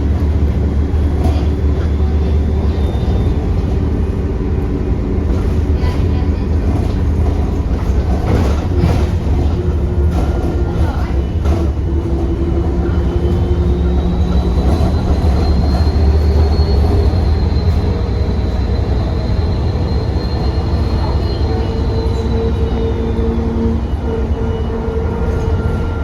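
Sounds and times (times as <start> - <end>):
bus diesel engine pulling hard: 0.0 - 26.0.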